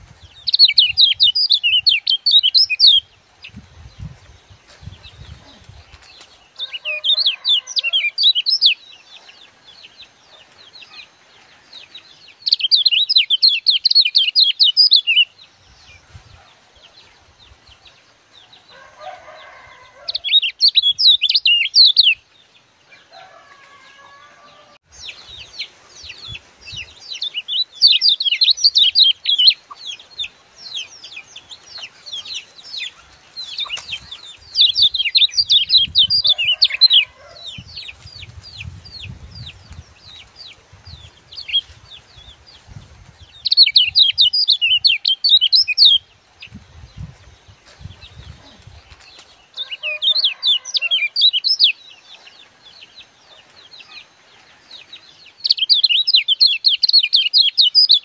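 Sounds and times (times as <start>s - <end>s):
songbird chirping rapidly: 0.0s - 22.7s, 24.9s - 58.0s.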